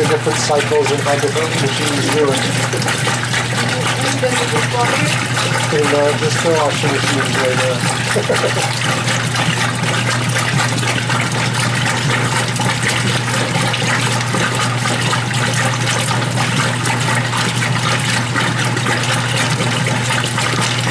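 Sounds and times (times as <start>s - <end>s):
washing machine low hum: 0.0s - 20.9s
water rushing in washing machine drum: 0.0s - 20.9s.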